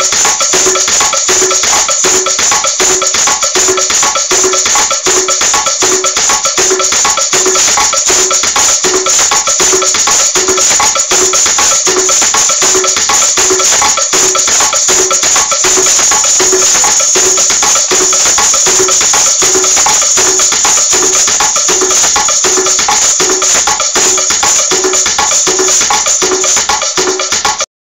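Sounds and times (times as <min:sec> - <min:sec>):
maracas shaking: 0:00.0 - 0:27.7.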